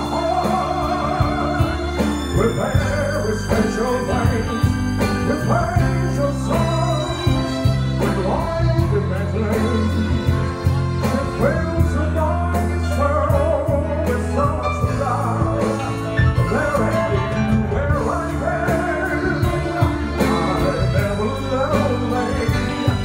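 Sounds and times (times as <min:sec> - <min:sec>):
bass notes: 0:00.0 - 0:23.0
keyboard: 0:00.0 - 0:23.0
person singing with vibrato: 0:00.0 - 0:23.0.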